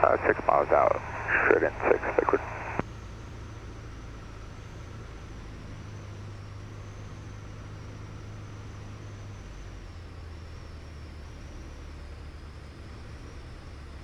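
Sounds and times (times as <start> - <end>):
aircraft engine droning: 0.0 - 11.9.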